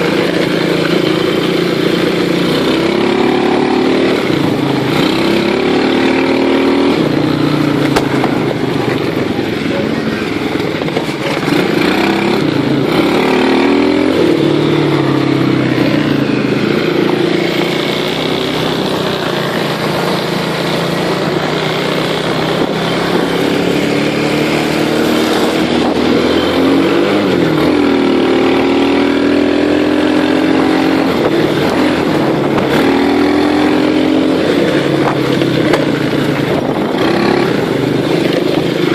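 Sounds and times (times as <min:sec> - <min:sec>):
small engine revving: 0:00.0 - 0:38.9.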